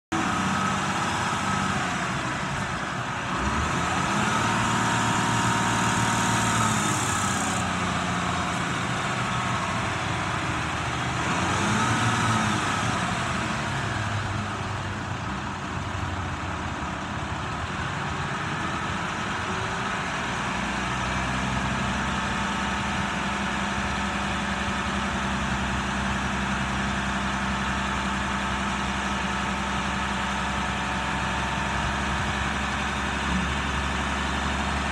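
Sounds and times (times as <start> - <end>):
diesel truck engine revving: 0.1 - 34.9.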